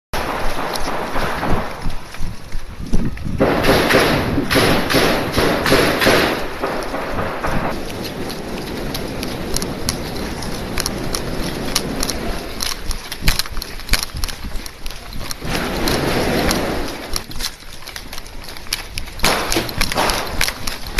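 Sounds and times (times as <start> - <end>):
footsteps: 0.2 - 20.9
gear knocks and rustles: 0.2 - 20.9
scattered clicks: 0.2 - 20.9.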